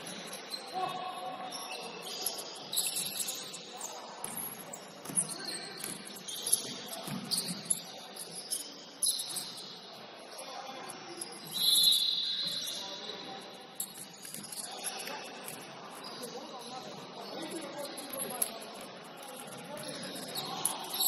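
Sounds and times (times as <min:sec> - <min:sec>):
shoes squeaking on gym floor: 0:00.0 - 0:10.4, 0:11.0 - 0:21.0.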